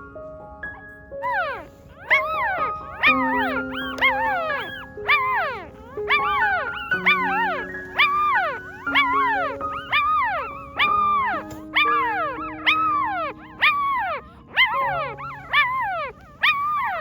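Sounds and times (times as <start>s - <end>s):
soft background music: 0.0s - 17.0s
puppy whimpering and whining: 1.2s - 17.0s.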